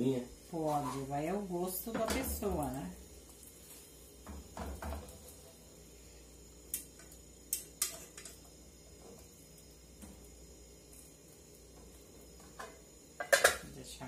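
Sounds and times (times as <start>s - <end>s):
faint stove hum: 0.0s - 14.0s.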